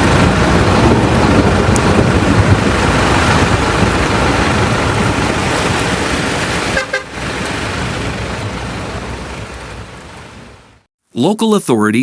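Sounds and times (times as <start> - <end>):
floodwater rushing: 0.0 - 10.8
heavy rain: 0.0 - 10.9.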